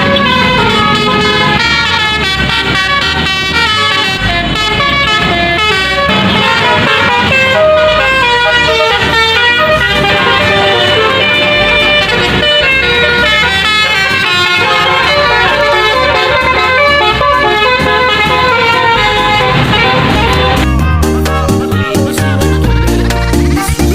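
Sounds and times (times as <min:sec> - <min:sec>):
multi-tone bus air horns: 0:00.0 - 0:20.8, 0:22.1 - 0:23.4.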